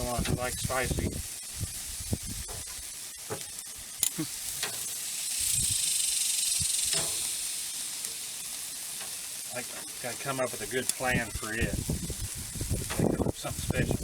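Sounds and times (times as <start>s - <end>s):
chicken sizzling on a grill: 0.0s - 14.0s.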